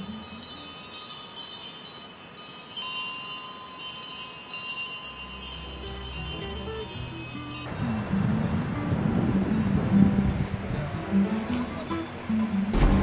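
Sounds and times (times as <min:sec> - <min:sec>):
cowbells clanking: 0:00.0 - 0:10.5.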